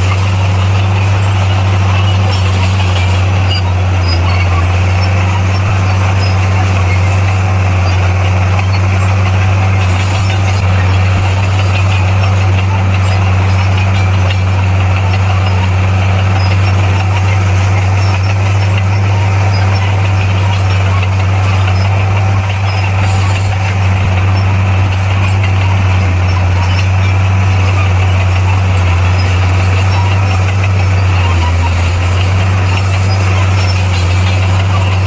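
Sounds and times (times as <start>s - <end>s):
diesel engine droning: 0.0s - 35.0s
faint track squealing: 0.0s - 35.0s.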